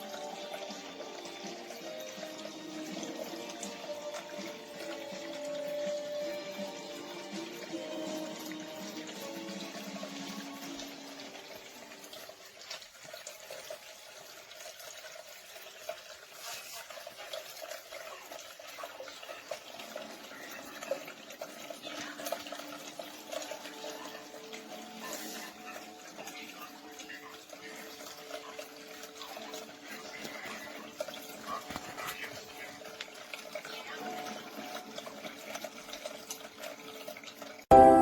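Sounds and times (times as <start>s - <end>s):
water trickling down fountain: 0.0s - 37.7s.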